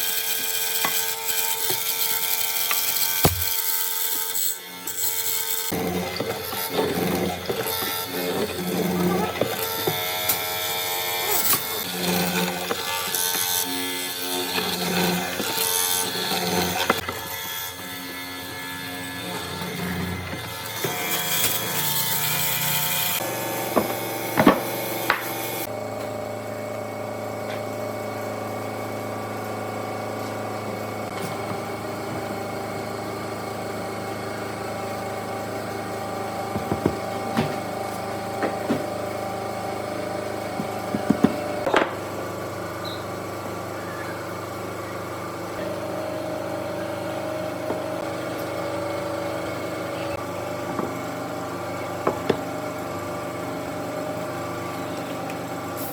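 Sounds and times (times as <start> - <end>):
power tool sawing: 0.0 - 55.9
machine motor hum: 0.8 - 5.1, 5.7 - 55.9.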